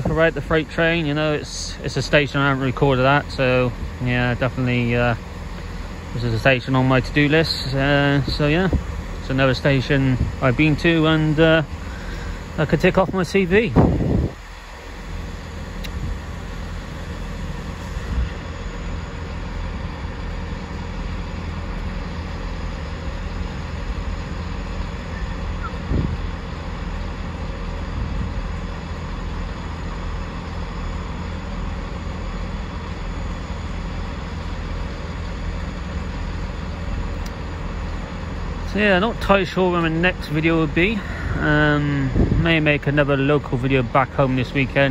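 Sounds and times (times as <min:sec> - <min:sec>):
train engine rumble: 0:00.0 - 0:44.9.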